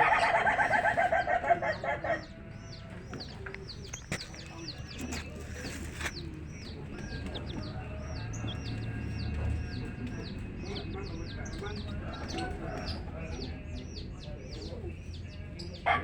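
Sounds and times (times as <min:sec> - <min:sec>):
chicken clucking loudly: 0:00.0 - 0:14.9
chicks peeping: 0:00.0 - 0:16.0.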